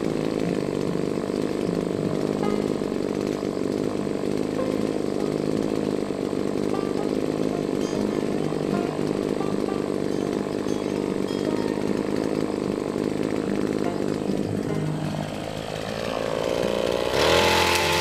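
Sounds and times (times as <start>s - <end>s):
brush cutter engine running: 0.0s - 18.0s.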